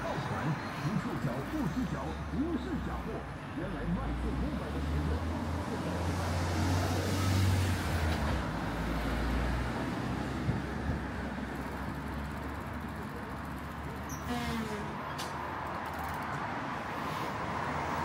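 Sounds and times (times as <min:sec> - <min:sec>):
steady traffic hum: 0:00.0 - 0:18.0.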